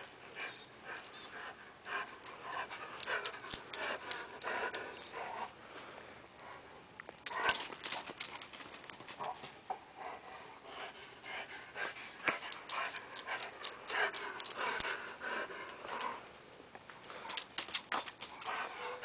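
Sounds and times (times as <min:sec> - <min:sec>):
dog panting: 0:00.0 - 0:05.6, 0:07.2 - 0:16.3, 0:17.1 - 0:19.0.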